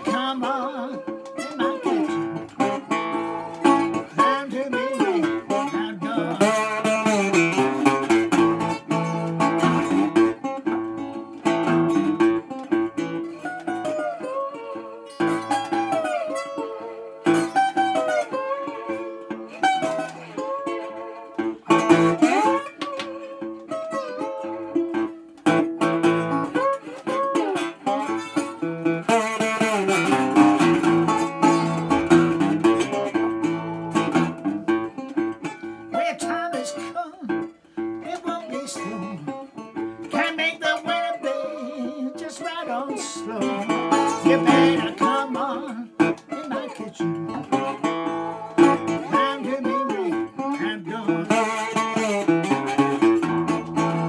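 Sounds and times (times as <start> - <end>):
slide guitar playing: 0.0 - 54.0.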